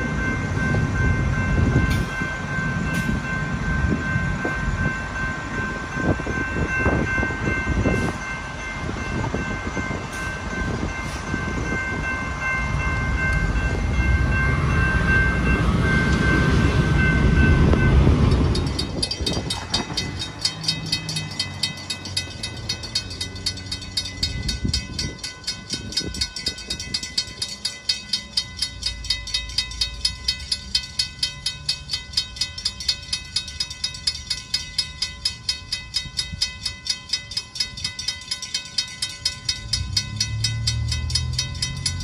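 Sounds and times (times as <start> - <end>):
bell ringing: 0.0 - 42.0
passing train rumble: 0.0 - 42.0.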